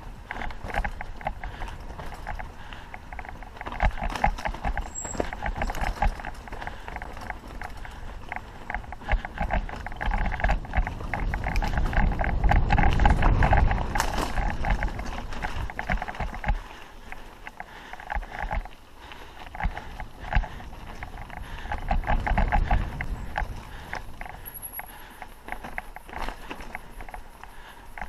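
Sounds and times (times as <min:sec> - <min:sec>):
bike rattling over rough ground: 0:00.0 - 0:28.0.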